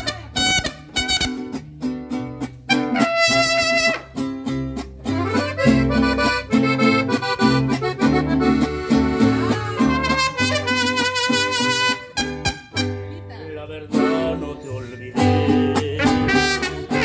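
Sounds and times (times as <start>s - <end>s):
accordion melody: 0.0s - 17.0s
strummed guitar chords: 0.1s - 17.0s.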